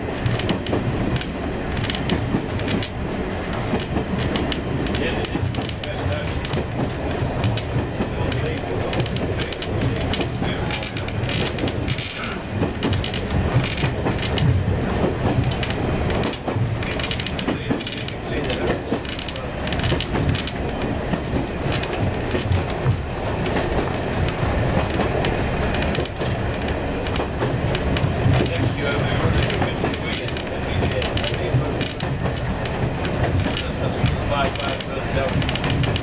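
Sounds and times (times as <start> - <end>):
train rumbling: 0.0 - 36.0
wheels clattering over rail joints: 0.0 - 36.0.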